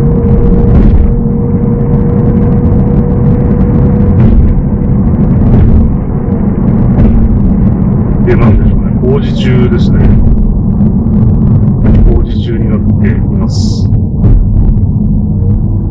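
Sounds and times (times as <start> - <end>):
car tyres and engine rumble: 0.0 - 15.9
faint steady hum: 0.0 - 15.9.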